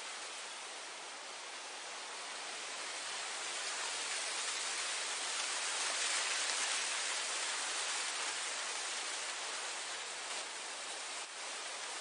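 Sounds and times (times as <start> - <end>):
wind blowing through grass: 0.0 - 12.0.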